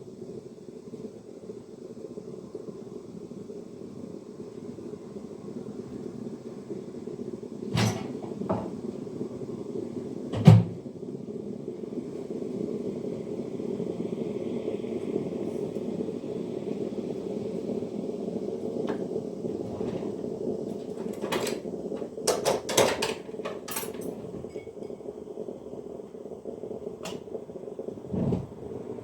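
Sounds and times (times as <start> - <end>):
faint hiss: 0.0 - 29.0.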